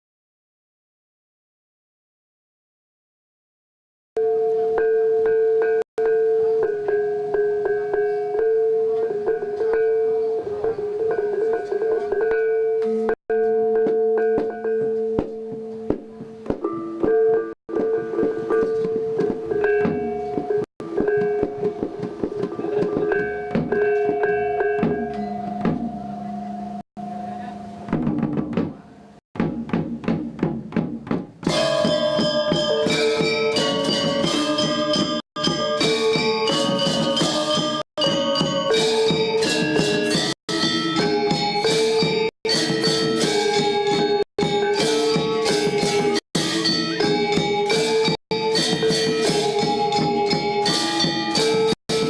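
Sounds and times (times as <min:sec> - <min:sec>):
gamelan ensemble playing: 0:04.2 - 0:15.9, 0:16.6 - 0:27.9, 0:31.5 - 0:52.0.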